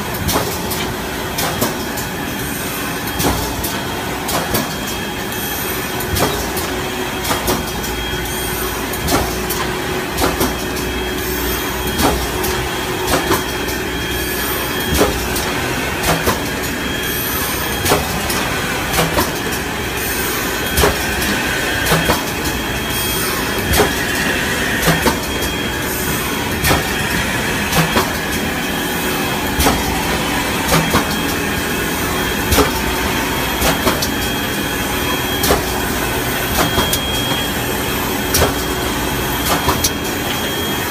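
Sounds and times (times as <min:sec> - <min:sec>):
machine hum with whine: 0:00.0 - 0:40.9
sharp machine clacks: 0:03.0 - 0:40.9.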